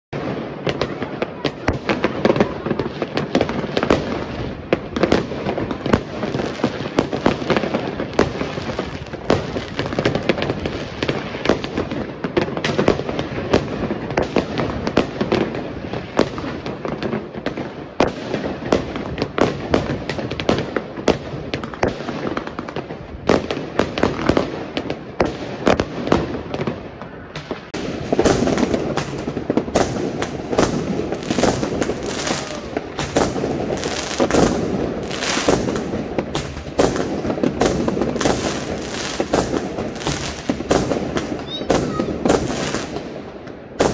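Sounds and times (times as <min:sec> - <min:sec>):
fireworks cracking and banging: 0:00.1 - 0:43.9.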